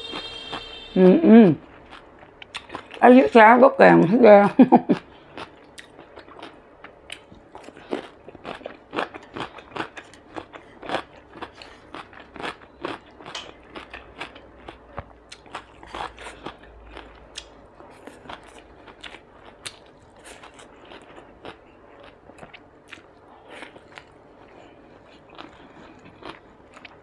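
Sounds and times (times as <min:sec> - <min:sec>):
person crunching cucumber: 0:04.9 - 0:27.0.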